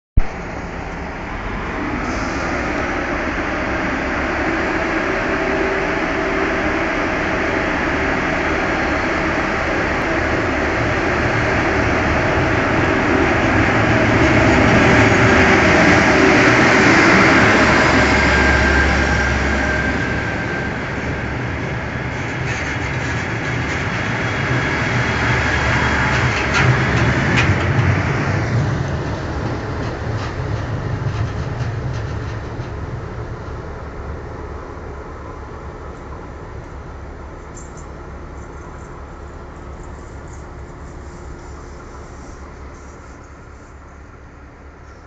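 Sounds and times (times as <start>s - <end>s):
train passing with rumble: 0.2s - 45.0s.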